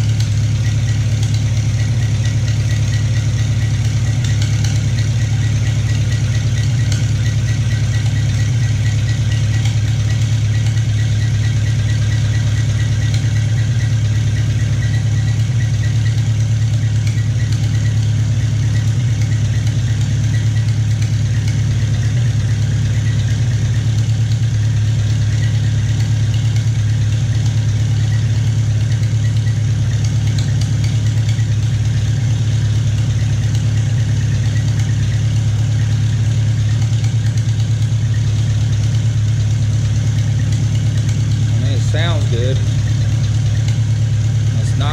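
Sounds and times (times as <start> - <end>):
tractor engine idling: 0.0 - 44.9.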